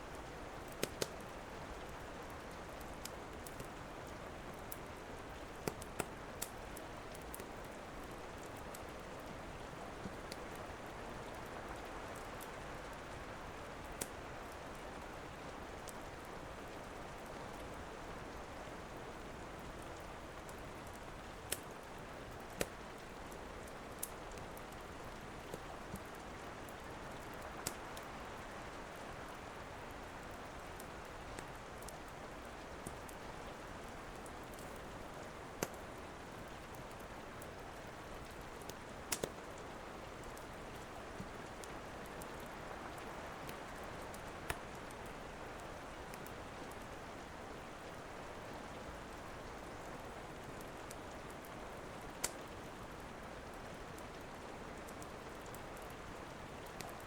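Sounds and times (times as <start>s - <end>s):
steady rain hiss: 0.0s - 57.0s
wood fire crackling: 0.0s - 57.0s.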